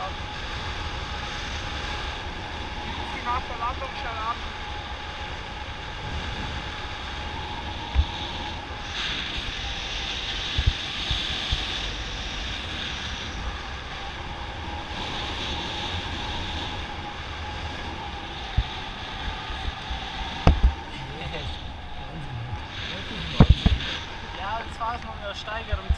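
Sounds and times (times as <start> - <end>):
wind buffeting thumps: 0.0 - 25.9
wind rushing over microphone: 0.0 - 25.9.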